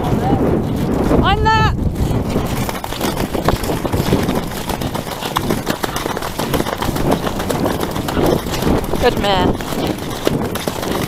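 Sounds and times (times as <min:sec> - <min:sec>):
horses galloping on grass: 0:00.0 - 0:11.0
wind on microphone: 0:00.0 - 0:11.0.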